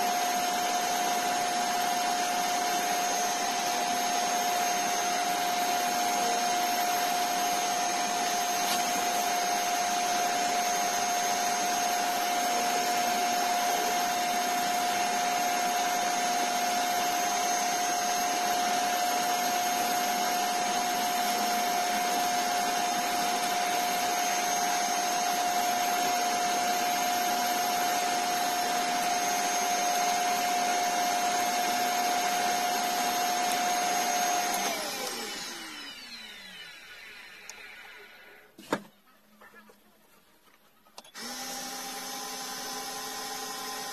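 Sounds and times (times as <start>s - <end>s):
wood lathe motor whine: 0.0s - 38.5s, 41.1s - 43.9s.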